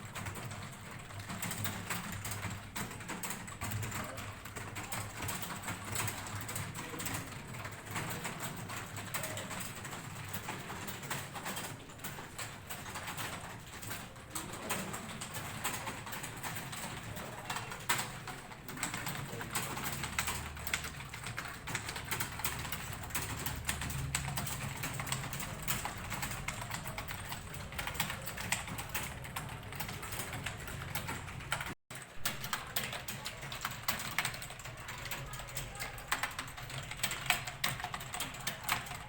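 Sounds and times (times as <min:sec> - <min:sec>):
keyboard typing clicks: 0:00.0 - 0:39.0.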